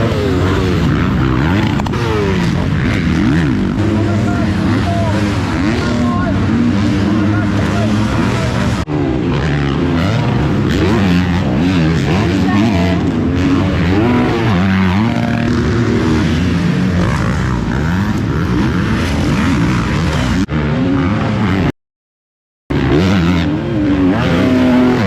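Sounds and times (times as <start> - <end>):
motocross bike engines revving: 0.0 - 21.7, 22.7 - 25.0.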